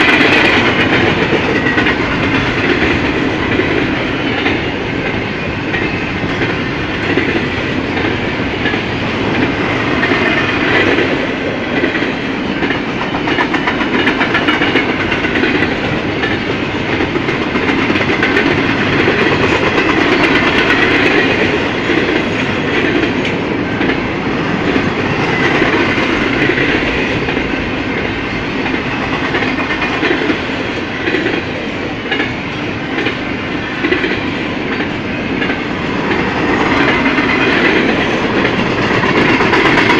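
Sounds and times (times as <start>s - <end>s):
wheels clicking over rail joints: 0.0s - 27.7s, 33.8s - 39.9s
steel wheels rolling on rail: 0.0s - 39.9s.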